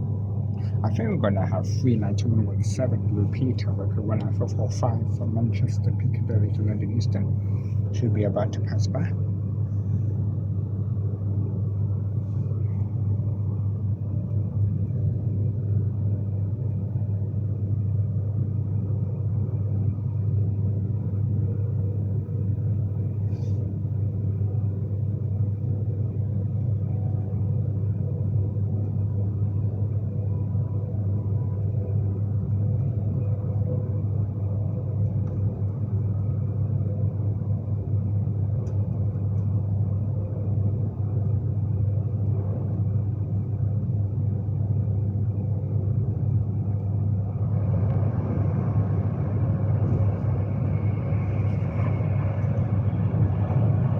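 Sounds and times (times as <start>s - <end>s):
faint steady hum: 0.0s - 53.9s
low rumble inside moving train: 0.0s - 53.9s.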